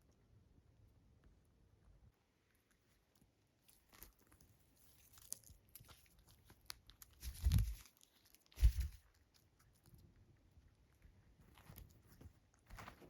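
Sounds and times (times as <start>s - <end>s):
parrot chewing and biting: 2.4s - 13.0s.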